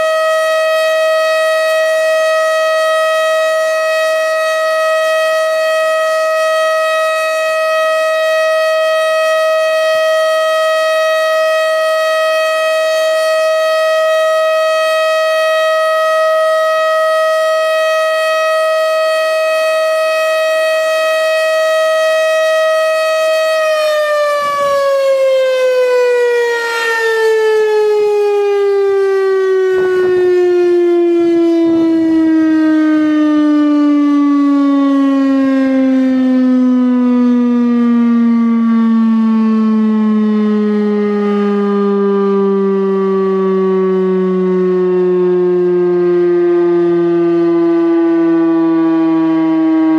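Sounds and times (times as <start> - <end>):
warning siren winding down: 0.0 - 49.9.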